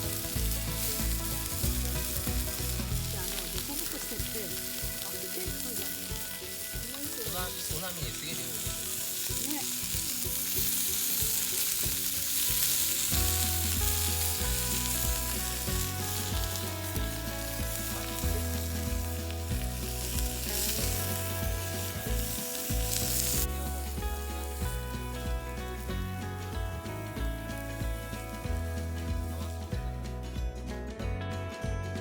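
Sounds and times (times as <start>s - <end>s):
food sizzling in hot oil: 0.0s - 29.8s
background music with bass line: 0.0s - 32.0s.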